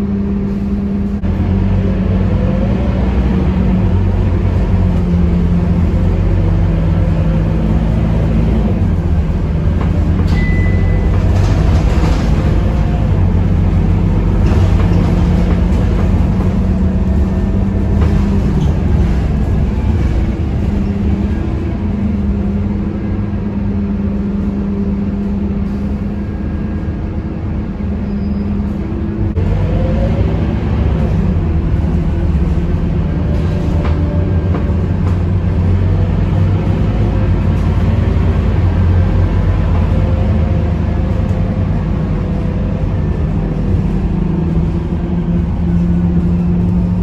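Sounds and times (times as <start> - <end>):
bus engine hum: 0.0 - 47.0
rising engine whine: 0.0 - 47.0.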